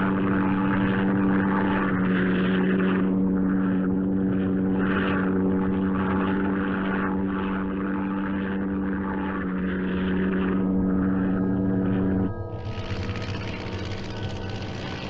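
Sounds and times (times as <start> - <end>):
propeller airplane engines droning: 0.0 - 15.0.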